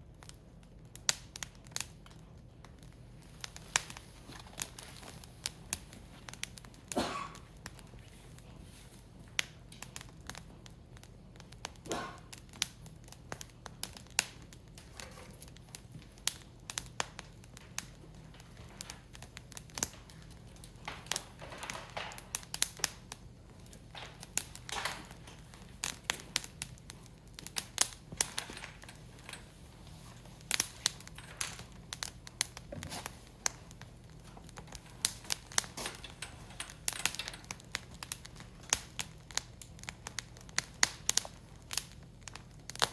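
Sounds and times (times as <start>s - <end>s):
firewood crackling and popping: 0.0s - 42.9s.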